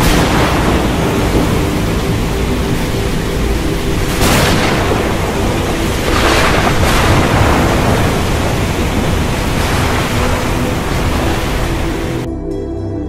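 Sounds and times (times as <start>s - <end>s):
rushing storm noise: 0.0s - 12.3s
thunder rumbling: 0.0s - 12.3s.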